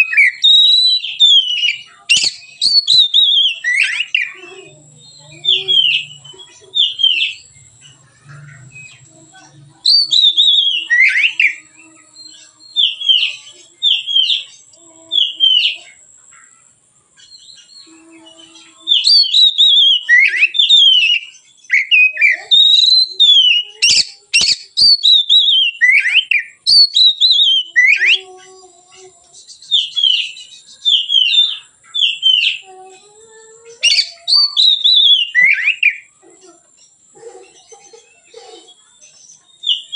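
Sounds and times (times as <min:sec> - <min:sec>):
bird singing whistled phrases: 0:00.0 - 0:08.0, 0:09.8 - 0:16.0, 0:17.2 - 0:28.3, 0:29.3 - 0:32.7, 0:33.6 - 0:36.2, 0:38.6 - 0:39.9.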